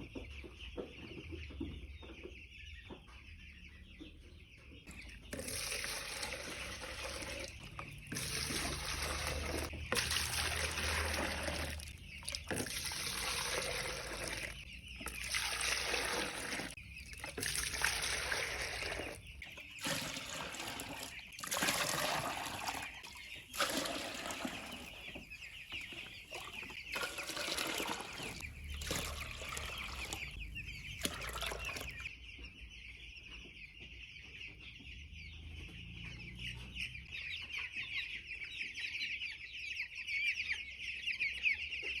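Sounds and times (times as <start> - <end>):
chicks cheeping: 0.0 - 42.0.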